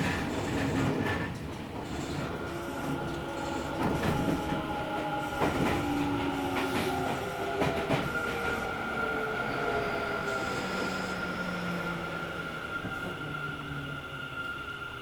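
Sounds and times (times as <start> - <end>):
train whining and squealing on rails: 0.0 - 15.0.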